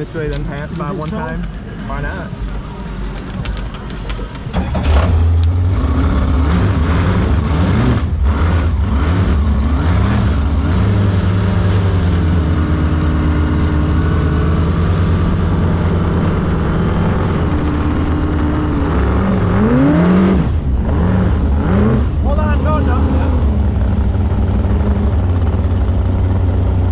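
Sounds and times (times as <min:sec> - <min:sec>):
boat engine running hard: 0:05.2 - 0:26.9.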